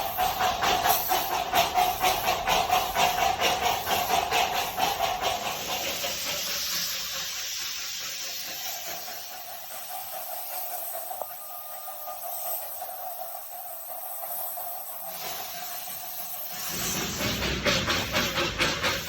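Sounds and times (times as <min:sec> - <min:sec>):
soft steam hiss: 0:00.0 - 0:19.0
steam locomotive chuffing: 0:00.0 - 0:19.0.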